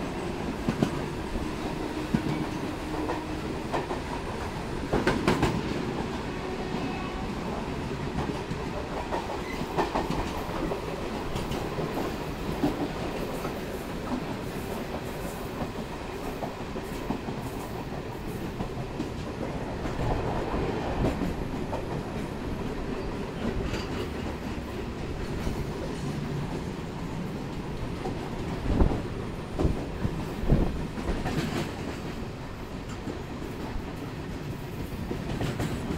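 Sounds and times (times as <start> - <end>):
electric train rumbling and rattling: 0.0 - 35.9
freight train passing alongside: 0.0 - 35.9.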